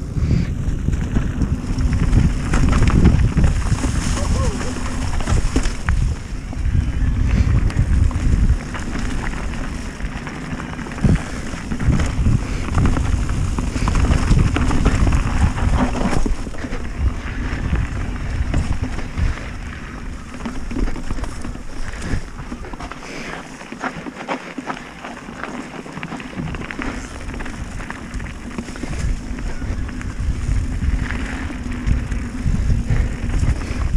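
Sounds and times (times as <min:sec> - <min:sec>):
steady low rumble: 0:00.0 - 0:23.1, 0:26.0 - 0:33.9
bike knocking on rough trail: 0:00.0 - 0:33.9
wind buffeting microphone: 0:00.0 - 0:33.9.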